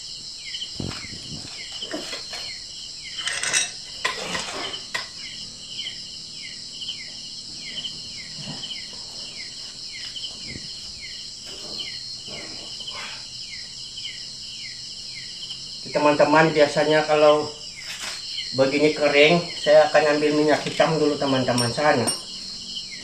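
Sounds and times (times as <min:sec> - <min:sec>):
insect chorus shrilling: 0:00.0 - 0:23.0.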